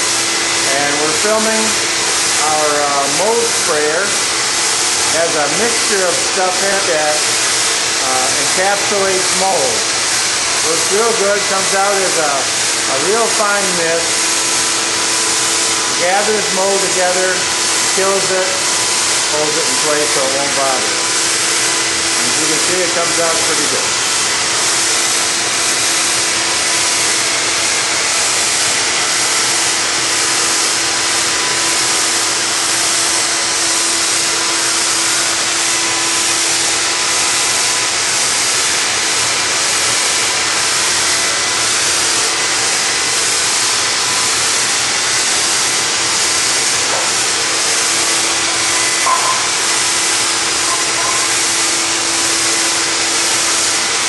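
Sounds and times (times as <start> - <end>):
loud spray hiss: 0.0 - 54.0
sprayer motor humming: 0.0 - 54.0.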